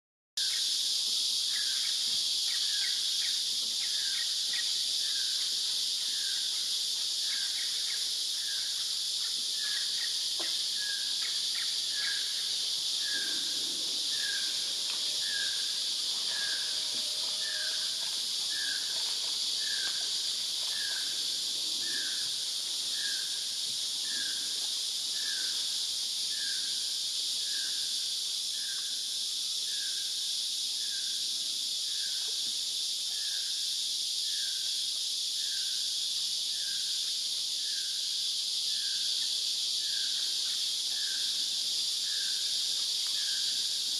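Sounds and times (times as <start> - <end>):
insect chorus drone: 0.4 - 43.9.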